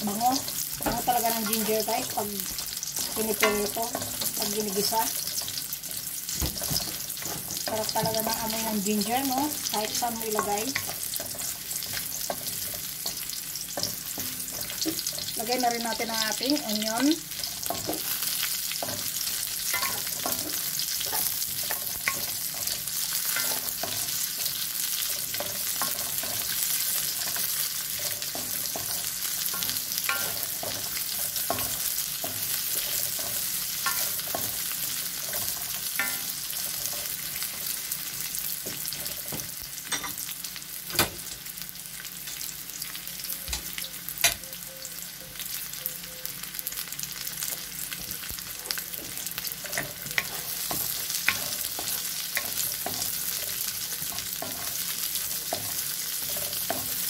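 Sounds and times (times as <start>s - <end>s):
vegetables sizzling in oil: 0.0s - 57.0s.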